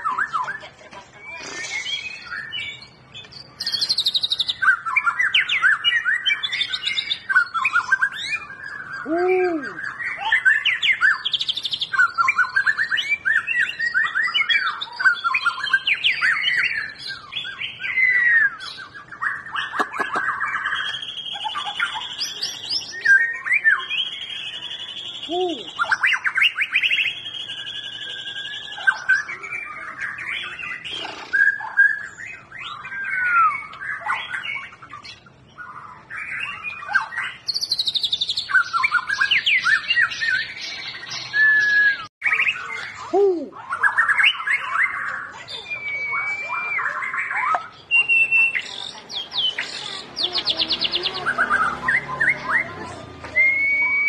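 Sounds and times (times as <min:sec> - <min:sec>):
bird singing whistles and trills: 0:00.0 - 0:00.6, 0:01.2 - 0:54.0.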